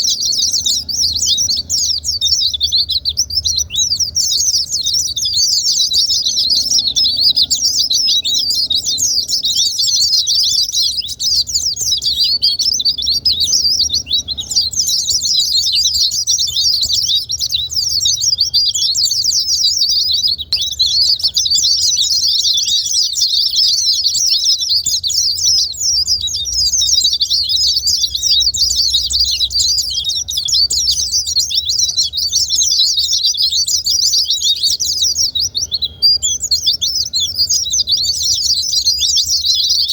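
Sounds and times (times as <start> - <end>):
rapid high-pitched bird twittering: 0.0 - 39.9.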